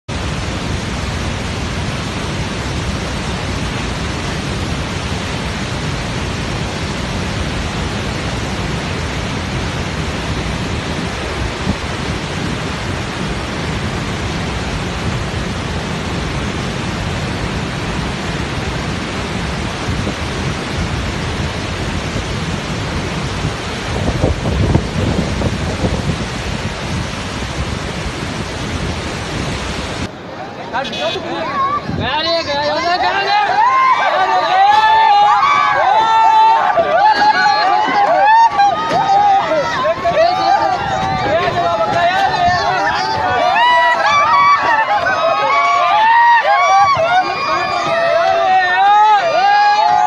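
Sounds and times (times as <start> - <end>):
rushing water: 0.0 - 50.0.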